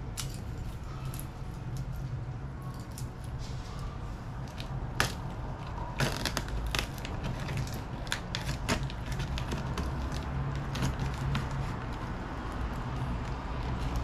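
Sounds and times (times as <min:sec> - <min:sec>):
packaging crackling and crinkling: 0:00.0 - 0:14.0.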